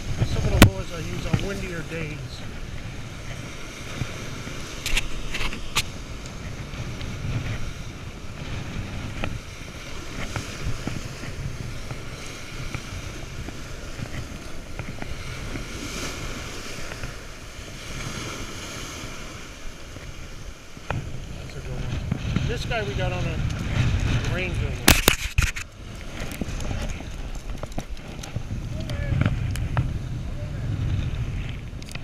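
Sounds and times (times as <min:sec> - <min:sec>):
surf washing on sand: 0:00.0 - 0:32.0
wind buffeting microphone: 0:00.0 - 0:32.0.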